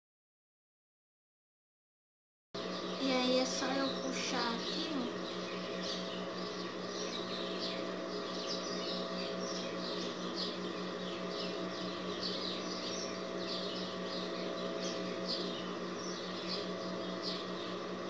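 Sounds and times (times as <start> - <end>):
low electrical hum: 2.6 - 18.0
small bird chirping: 2.6 - 18.0.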